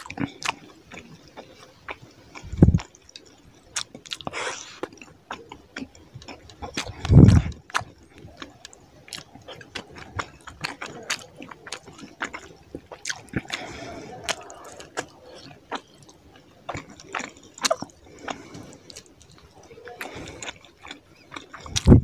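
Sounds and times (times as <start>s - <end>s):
chewing and lip smacking: 0.0s - 22.0s.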